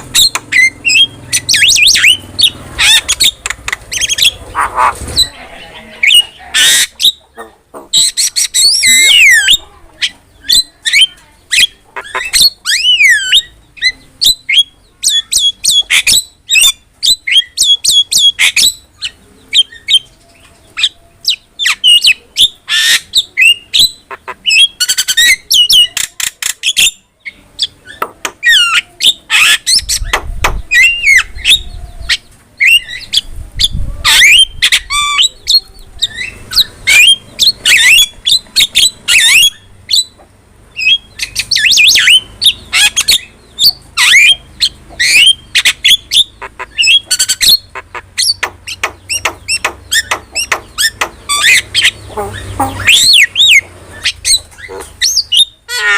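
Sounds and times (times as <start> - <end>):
bird singing whistles and squawks: 0.1 - 4.4, 7.9 - 9.6, 10.4 - 26.0, 27.6 - 40.2, 40.8 - 55.9.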